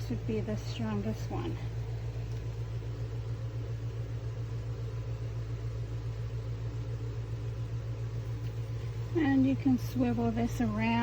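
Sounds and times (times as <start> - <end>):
mini fan humming: 0.0 - 11.0.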